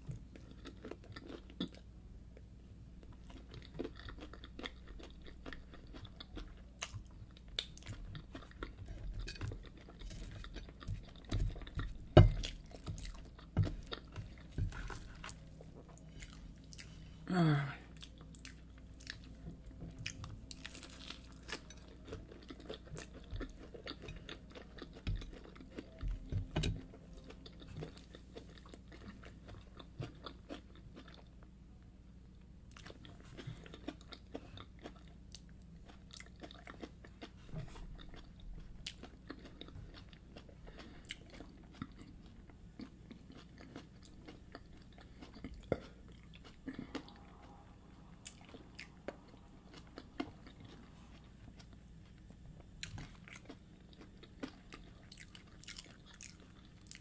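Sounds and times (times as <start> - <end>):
chewing and crunching food: 0.0 - 17.2, 17.9 - 57.0.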